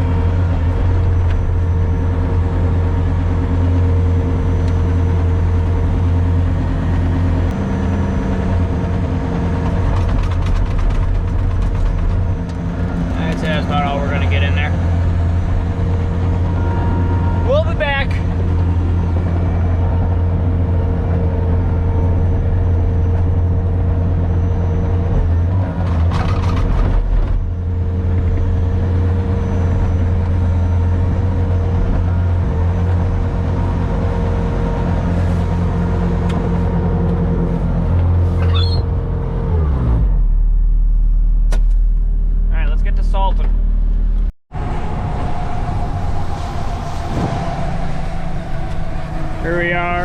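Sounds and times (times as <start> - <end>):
vehicle engine whining: 0.0 - 50.0.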